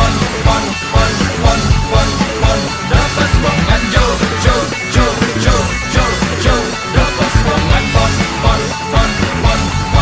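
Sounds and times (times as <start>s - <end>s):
rock band music: 0.0s - 10.0s
steady drum beat: 0.0s - 10.0s.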